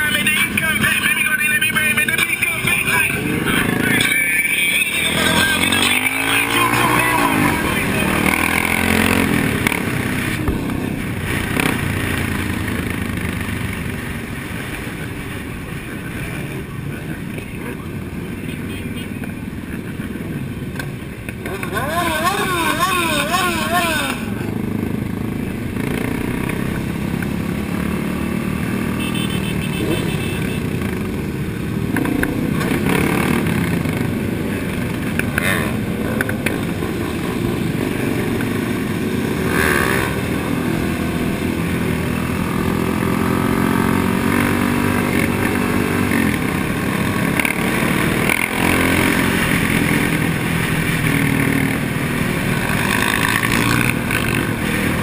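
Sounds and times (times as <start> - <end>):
motorcycle engines cruising: 0.0 - 55.0.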